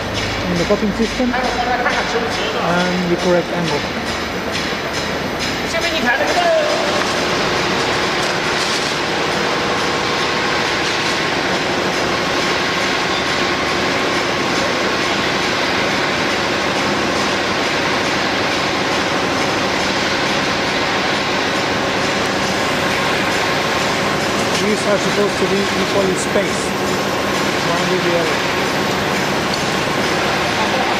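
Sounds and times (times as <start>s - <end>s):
paper tube machine running: 0.0s - 30.9s.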